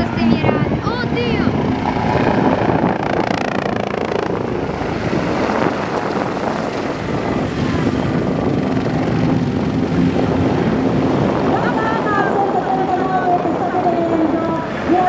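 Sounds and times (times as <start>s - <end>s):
helicopter rotor rumble: 0.0s - 15.0s
high turbine whine: 0.0s - 15.0s.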